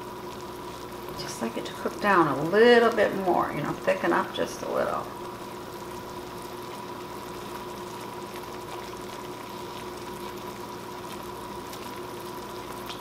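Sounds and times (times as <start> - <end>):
sauce simmering and bubbling: 0.0 - 3.2, 5.0 - 13.0
steady hum: 0.0 - 13.0.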